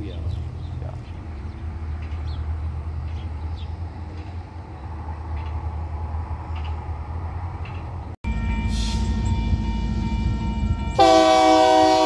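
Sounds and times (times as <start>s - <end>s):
freight cars rumbling: 0.0s - 12.0s.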